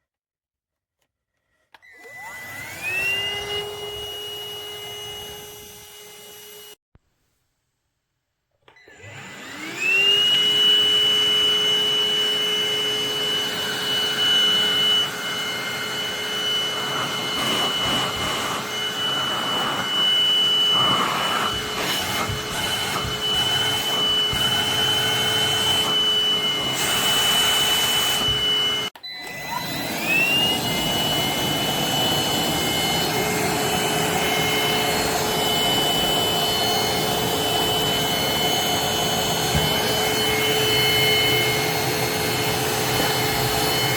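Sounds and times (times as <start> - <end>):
handheld vacuum cleaner whine: 1.4 - 6.8, 8.6 - 43.9.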